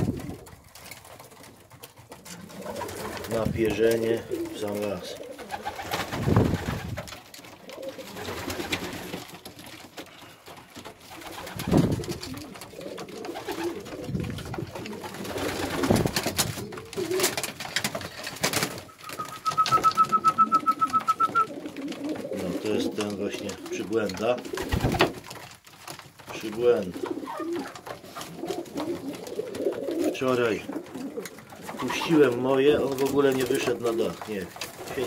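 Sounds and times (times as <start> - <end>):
pigeons cooing: 0.0 - 25.2, 26.4 - 35.0.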